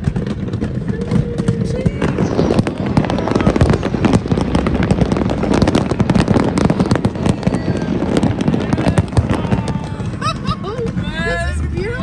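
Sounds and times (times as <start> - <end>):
fireworks and firecrackers banging: 0.0 - 12.0.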